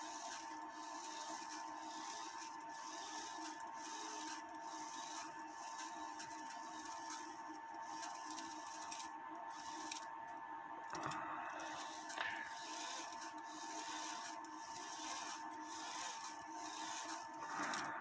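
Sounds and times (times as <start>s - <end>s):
steady faint whine: 0.0s - 18.0s.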